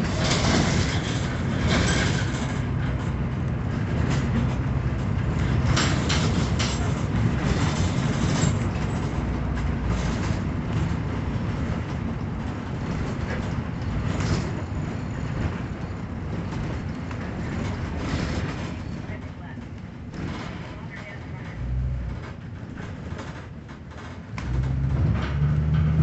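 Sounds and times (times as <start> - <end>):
low engine rumble: 0.0 - 19.7, 20.8 - 26.0
tyre and road noise: 0.0 - 26.0.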